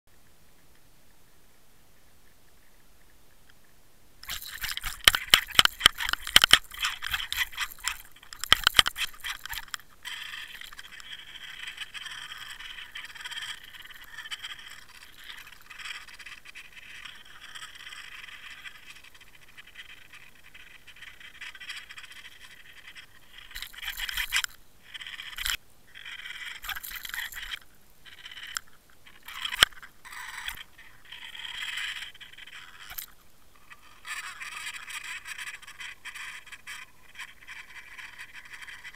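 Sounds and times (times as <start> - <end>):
steady hiss with clicks: 0.1 - 38.9.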